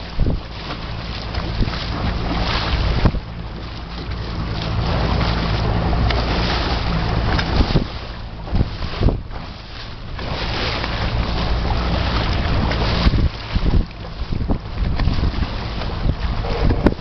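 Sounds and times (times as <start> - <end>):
boat engine humming: 0.0 - 17.0
wind gusting on microphone: 0.0 - 17.0.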